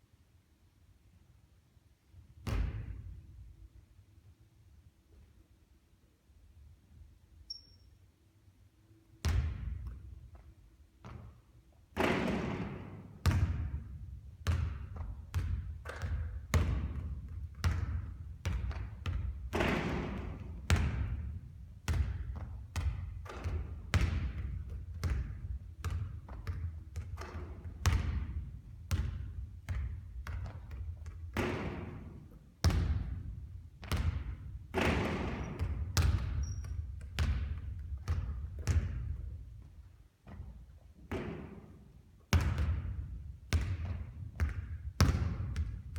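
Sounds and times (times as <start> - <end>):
basketball bouncing on hard court: 2.4 - 3.2, 9.2 - 45.9.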